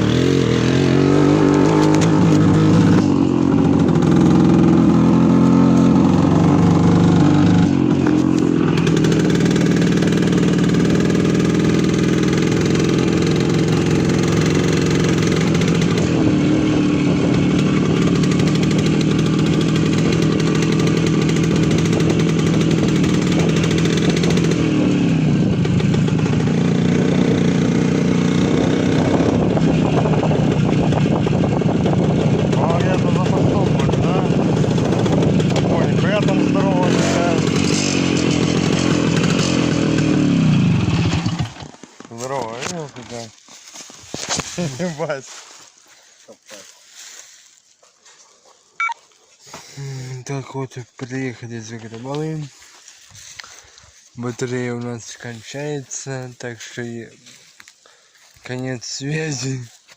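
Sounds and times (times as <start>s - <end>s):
two-stroke motorcycle engine running: 0.0s - 47.9s, 48.8s - 55.7s.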